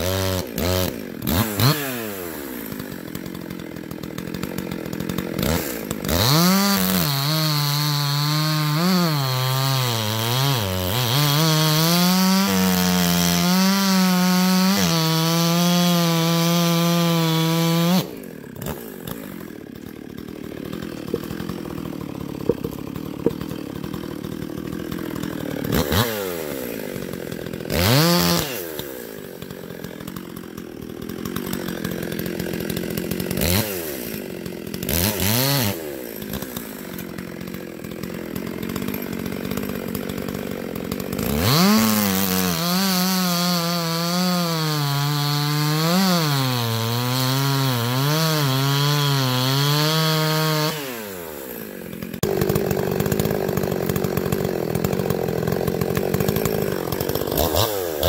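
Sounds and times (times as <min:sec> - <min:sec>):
chainsaw revving and cutting log: 0:00.0 - 0:58.0.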